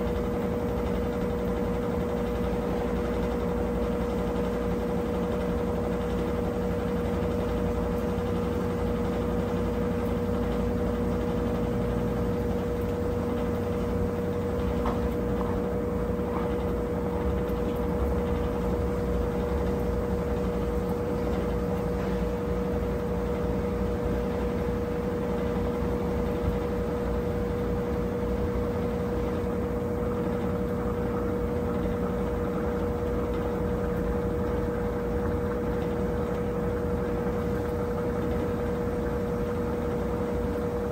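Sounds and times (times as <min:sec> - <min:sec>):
washing machine hum: 0:00.0 - 0:40.9.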